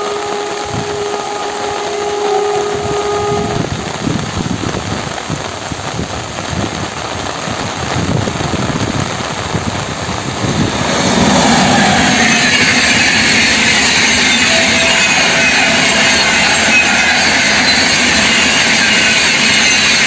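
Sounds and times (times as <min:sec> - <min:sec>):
train approaching hum: 0:00.0 - 0:05.7, 0:07.2 - 0:20.0
heavy rain falling: 0:00.0 - 0:20.0.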